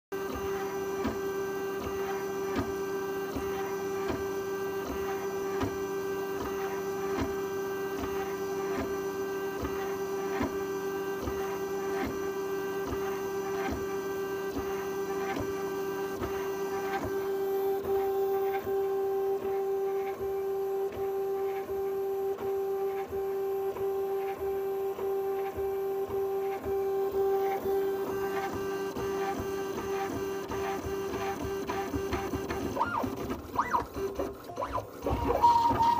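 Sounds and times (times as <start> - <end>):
stepper motors whining and ticking: 0.2 - 35.9.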